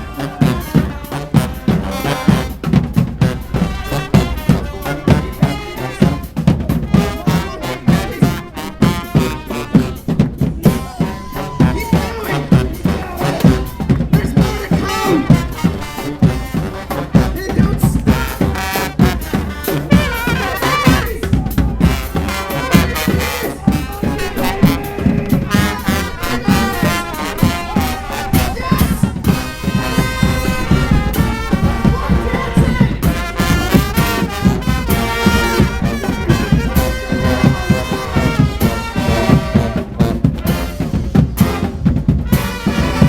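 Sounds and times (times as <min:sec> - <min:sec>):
bass drum and snare beat: 0:00.0 - 0:43.0
brass band horns: 0:00.0 - 0:43.0.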